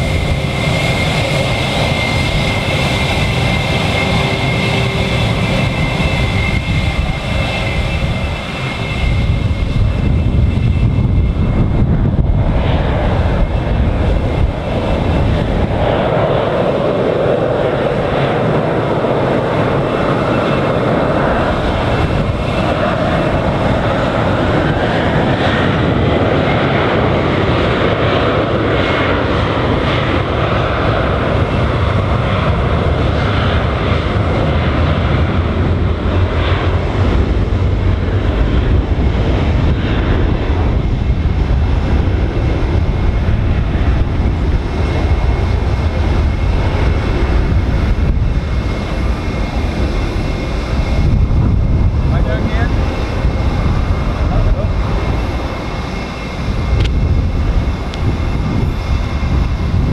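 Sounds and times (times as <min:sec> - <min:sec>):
deep rumble: 0:00.0 - 0:59.9
jet engines running: 0:00.0 - 0:59.9.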